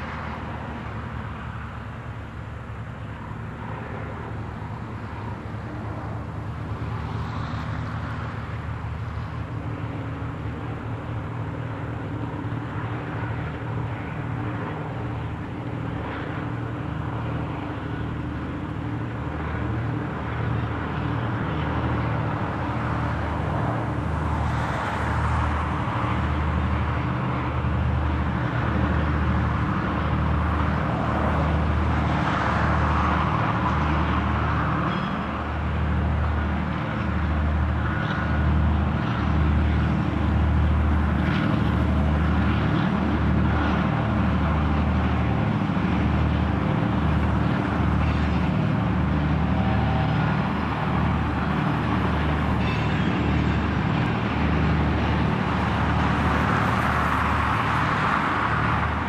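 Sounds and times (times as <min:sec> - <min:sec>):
diesel locomotive engines droning: 0:00.0 - 0:59.0.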